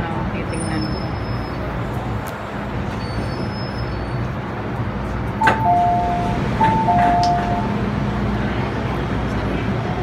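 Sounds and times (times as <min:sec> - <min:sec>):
metro train rumble: 0:00.0 - 0:10.0.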